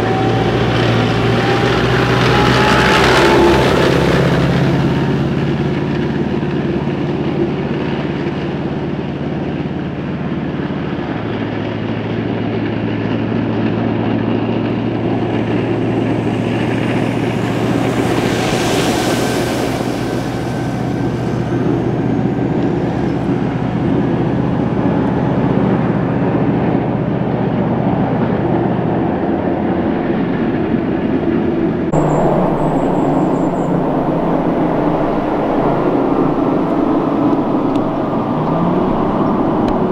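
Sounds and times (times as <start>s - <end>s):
armoured vehicle engine approaching: 0.0s - 39.9s
tracked vehicle diesel engine: 0.0s - 39.9s.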